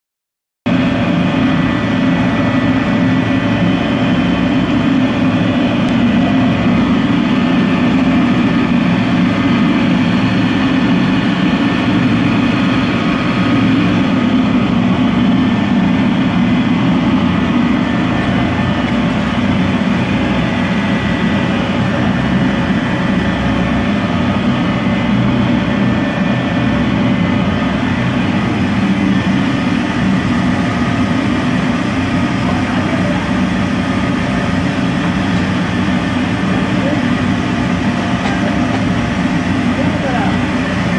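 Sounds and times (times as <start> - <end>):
loud steady machine hum: 0.7 - 40.9.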